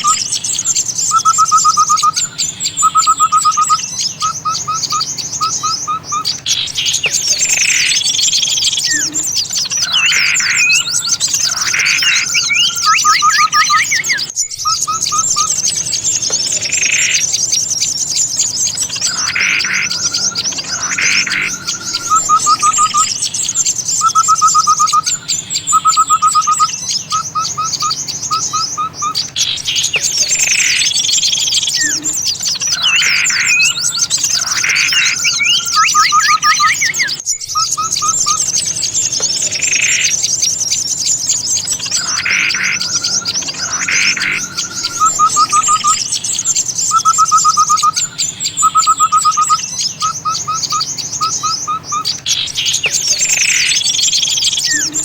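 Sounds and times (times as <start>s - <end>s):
high bird twittering: 0.0s - 55.0s
loud bird call phrases: 0.0s - 55.0s
small birds chattering: 0.0s - 55.0s.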